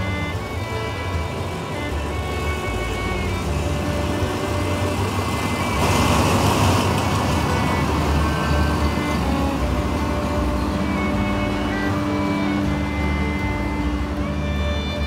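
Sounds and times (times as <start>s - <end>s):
diesel locomotive engine: 0.0s - 15.0s
train wheels rolling on track: 0.0s - 15.0s.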